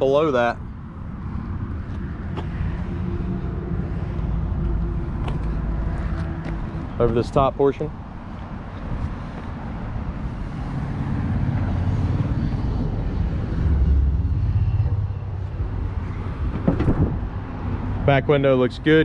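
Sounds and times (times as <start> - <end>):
vehicle passing on road: 0.0 - 19.0.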